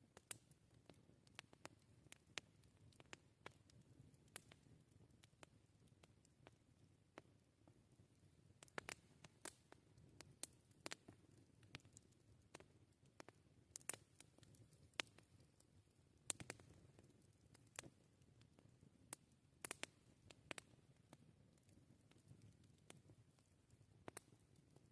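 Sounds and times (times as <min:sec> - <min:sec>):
campfire snaps and pops: 0:00.0 - 0:07.8, 0:08.4 - 0:24.9
faint low background: 0:00.0 - 0:24.9.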